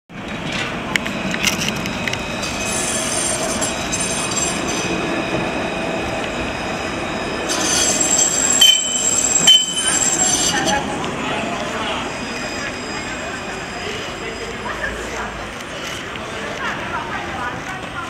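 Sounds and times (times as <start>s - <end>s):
tram rolling rumble: 0.1s - 18.0s
high wheel squeal: 1.0s - 16.1s.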